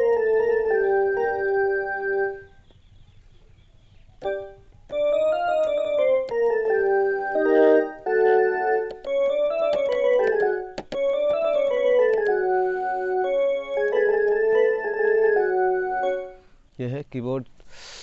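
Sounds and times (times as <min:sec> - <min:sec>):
electronic keyboard melody: 0:00.0 - 0:02.6, 0:04.0 - 0:16.6.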